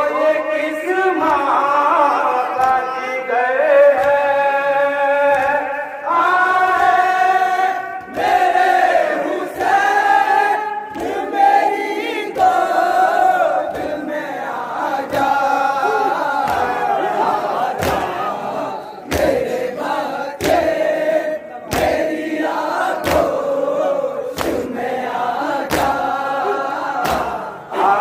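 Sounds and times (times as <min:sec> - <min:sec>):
man leading chant: 0:00.0 - 0:08.1, 0:12.5 - 0:28.0
men chanting in unison: 0:00.0 - 0:28.0.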